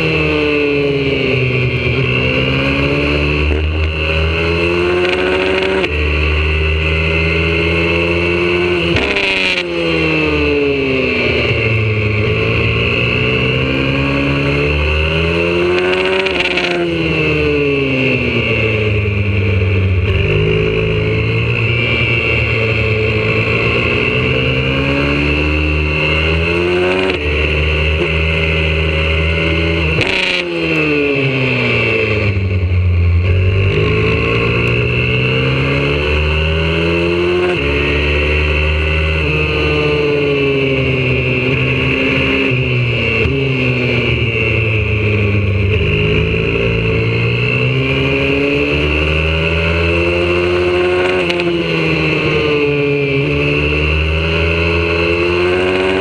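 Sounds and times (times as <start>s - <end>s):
pit bike engine revving: 0.0s - 56.0s.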